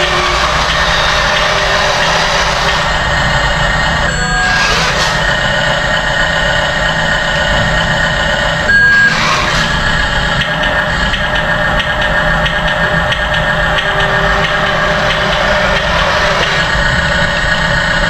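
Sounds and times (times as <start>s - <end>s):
toy truck engine idling: 0.0s - 18.0s.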